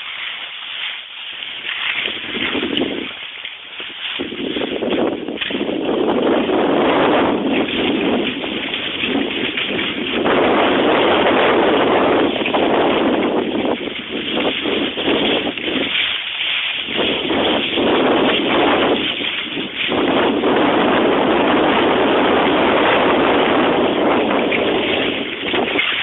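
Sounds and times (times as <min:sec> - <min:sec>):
skis hissing on snow: 0:00.0 - 0:05.9, 0:07.3 - 0:21.6, 0:23.2 - 0:26.0
wind on microphone: 0:00.0 - 0:26.0.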